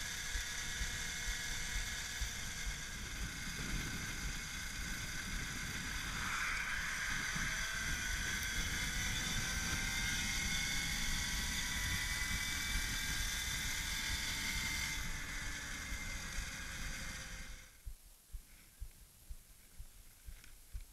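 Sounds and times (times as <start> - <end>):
electric motor whining: 0.0 - 17.8
wind buffeting microphone: 0.3 - 17.5.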